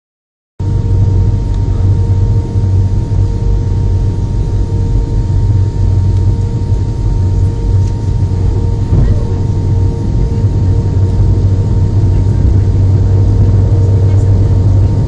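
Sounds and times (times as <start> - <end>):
engine and airflow rumble: 0.6 - 15.0
mid-pitched hum: 0.6 - 15.0.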